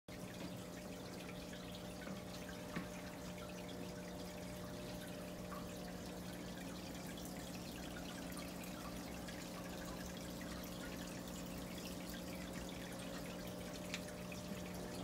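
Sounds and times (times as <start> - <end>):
low electrical hum: 0.1 - 15.0
water trickling and dripping: 0.1 - 15.0.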